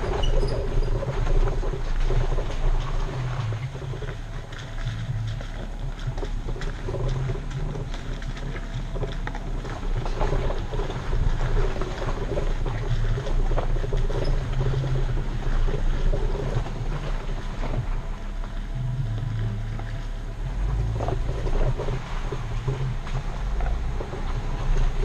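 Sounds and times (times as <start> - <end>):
low engine drone: 0.0 - 25.0
tires crunching over stones: 0.0 - 25.0.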